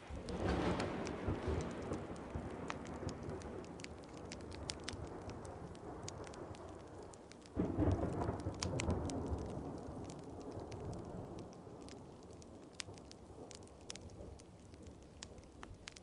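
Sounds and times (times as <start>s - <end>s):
steady rain: 0.0s - 16.0s
thunder rumbling: 0.0s - 16.0s
wood fire crackling: 0.0s - 16.0s.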